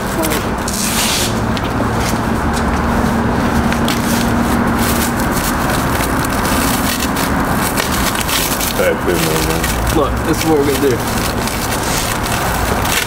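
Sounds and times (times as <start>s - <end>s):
plastic wrapping crinkling: 0.0s - 13.0s
steady mechanical hum: 0.0s - 13.0s.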